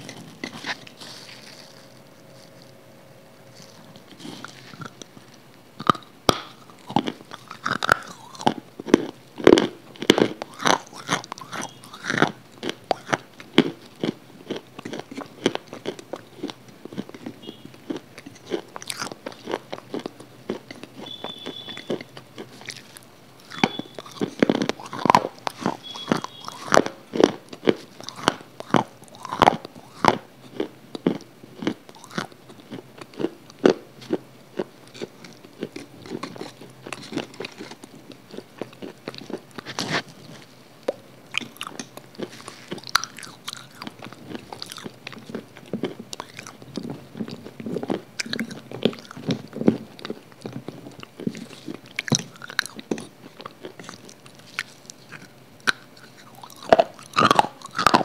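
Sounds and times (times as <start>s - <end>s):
crunching bites and chewing: 0.0s - 58.0s.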